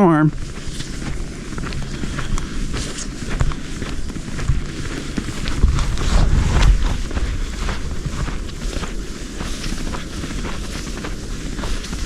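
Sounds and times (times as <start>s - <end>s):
footsteps in snow: 0.3s - 12.0s
wind rumbling on microphone: 0.3s - 12.0s.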